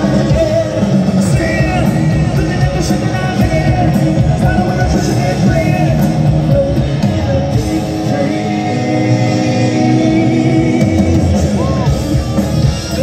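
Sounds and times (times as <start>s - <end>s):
live hard rock band: 0.0s - 13.0s.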